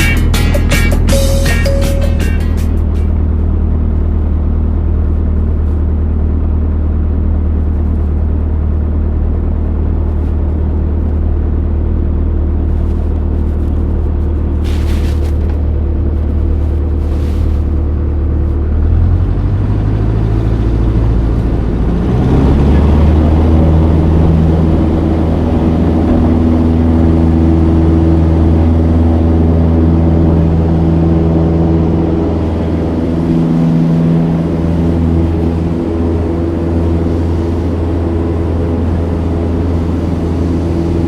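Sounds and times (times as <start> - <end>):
light aircraft engine running: 0.0 - 41.0.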